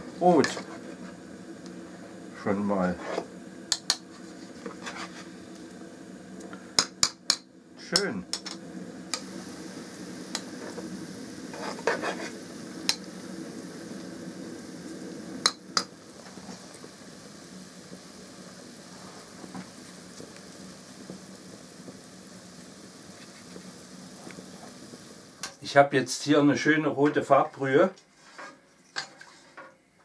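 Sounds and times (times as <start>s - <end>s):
liquid simmering low rushing: 0.0s - 26.6s.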